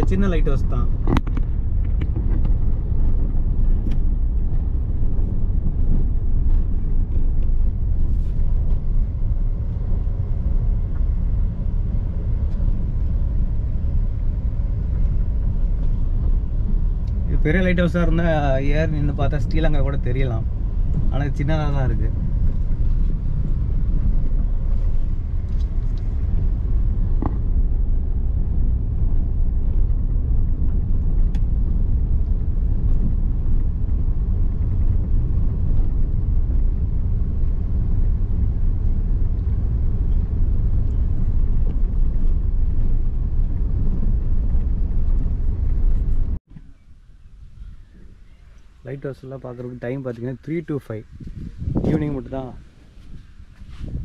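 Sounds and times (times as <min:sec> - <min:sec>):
car driving on dirt road: 0:00.0 - 0:54.0.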